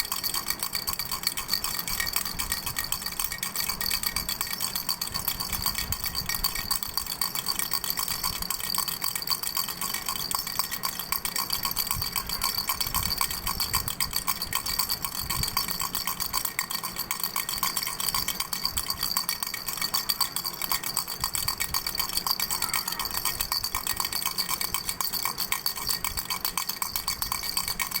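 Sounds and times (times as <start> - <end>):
baby rattle clicking: 0.0 - 28.0.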